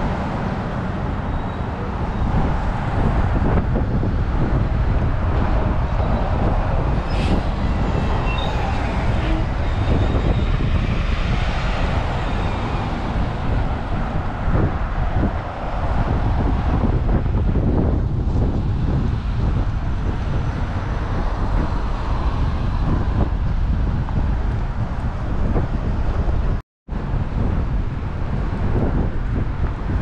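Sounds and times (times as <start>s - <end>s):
bus driving by: 0.0s - 30.0s
road traffic passing: 0.0s - 30.0s.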